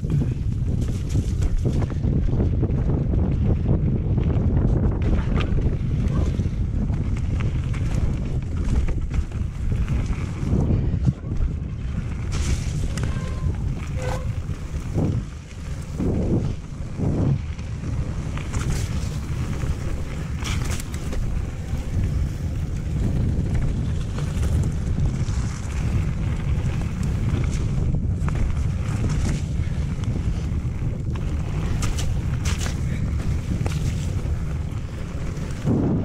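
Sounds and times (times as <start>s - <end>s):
bike tyres rumbling on gravel: 0.0s - 36.0s
wind buffeting microphone: 0.0s - 36.0s.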